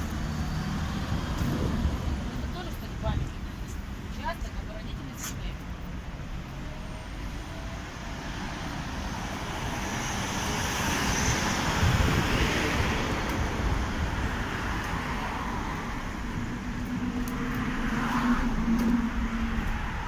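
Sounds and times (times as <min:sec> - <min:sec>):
passing vehicle tyre and engine: 0:00.0 - 0:04.4, 0:05.6 - 0:20.0.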